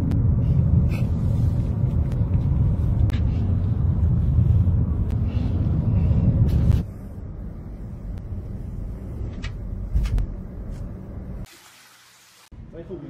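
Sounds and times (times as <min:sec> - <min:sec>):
low rumble of car driving: 0:00.0 - 0:11.5.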